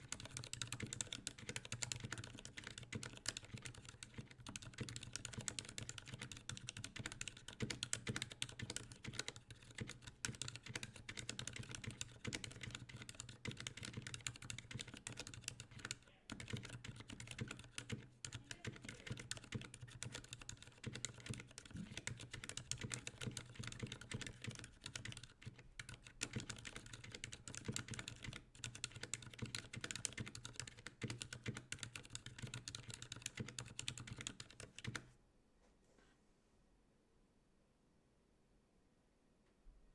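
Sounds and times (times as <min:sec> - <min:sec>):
fast keyboard typing: 0:00.0 - 0:35.1.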